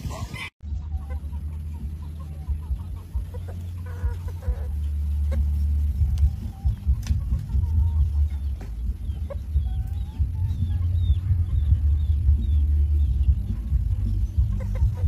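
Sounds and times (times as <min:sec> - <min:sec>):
chickens clucking softly: 0:00.0 - 0:15.0
steady low rumble: 0:00.0 - 0:15.0.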